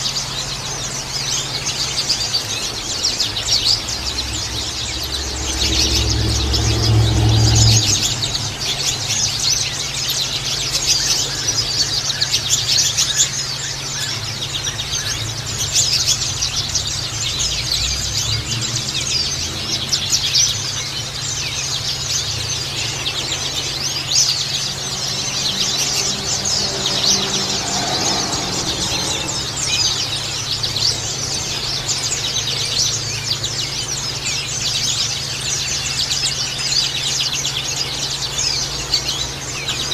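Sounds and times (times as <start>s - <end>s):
steady low hum: 0.0s - 36.8s
flock of birds twittering: 0.0s - 39.9s.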